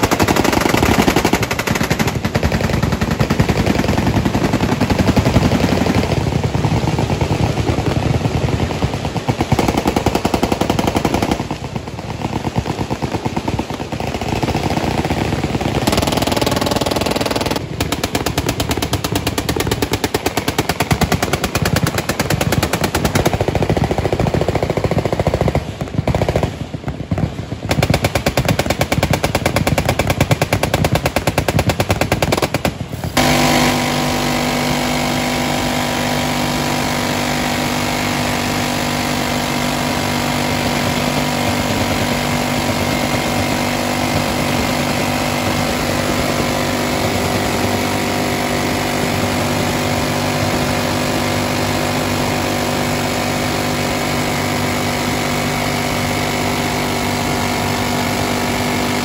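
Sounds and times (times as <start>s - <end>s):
machine-gun fire: 0.0s - 59.0s
minigun buzzing fire: 0.0s - 59.0s.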